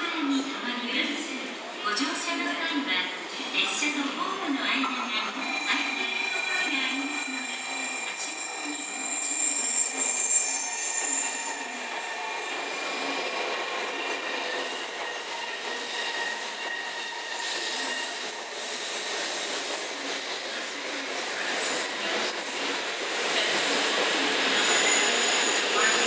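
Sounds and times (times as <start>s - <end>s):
train rolling noise: 3.0s - 26.0s.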